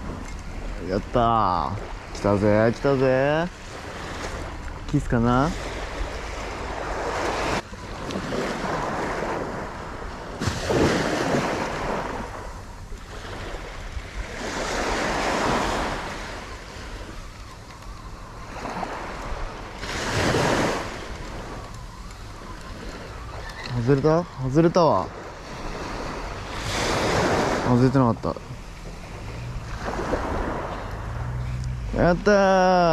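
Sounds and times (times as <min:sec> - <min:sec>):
small waves breaking on beach: 0:00.0 - 0:32.9
wind on microphone: 0:03.5 - 0:32.9.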